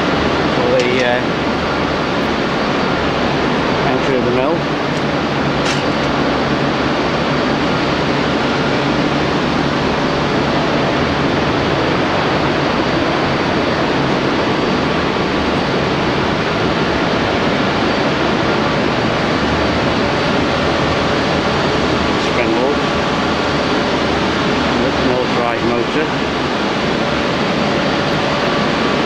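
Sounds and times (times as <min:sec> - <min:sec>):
faint steady hum tones: 0:00.0 - 0:29.0
steel mill roar: 0:00.0 - 0:29.0.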